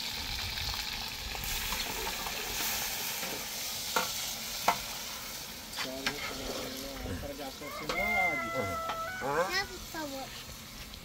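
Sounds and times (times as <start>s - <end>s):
meat and onions sizzling: 0.0s - 11.0s.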